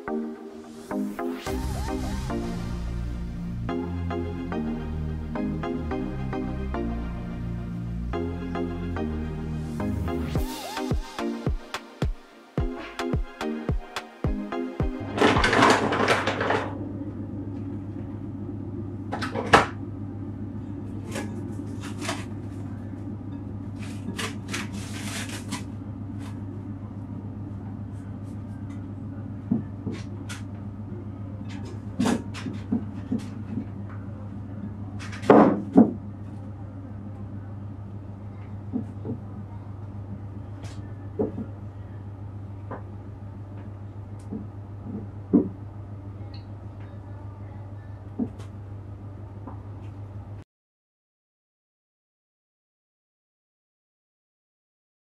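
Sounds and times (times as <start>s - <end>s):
steady low hum: 0.0s - 50.4s.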